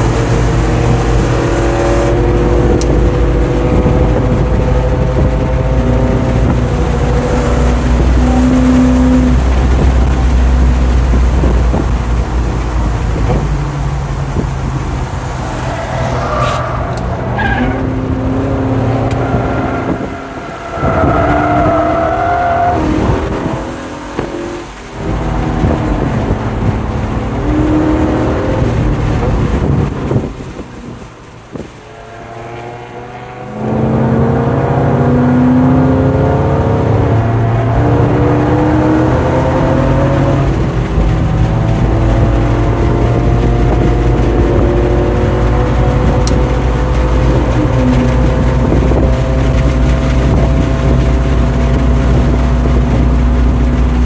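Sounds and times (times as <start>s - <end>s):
car engine at high revs: 0.0s - 54.0s
tires squealing: 0.0s - 54.0s.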